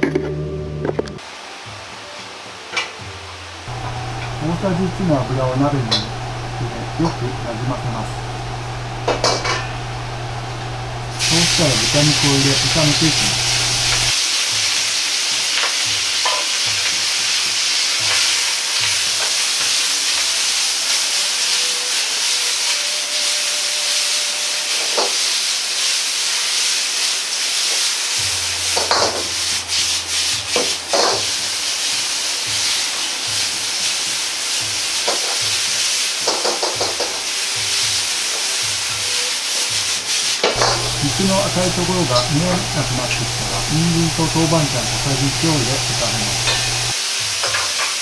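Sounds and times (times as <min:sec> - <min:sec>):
meat sizzling in a wok: 0:01.2 - 0:48.0.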